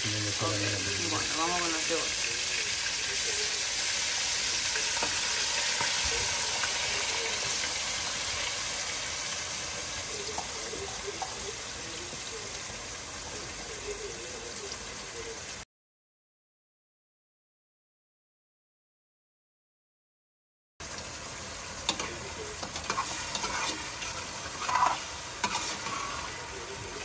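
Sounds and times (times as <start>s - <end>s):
meat and onion sizzling in oil: 0.0s - 15.6s, 20.8s - 27.0s.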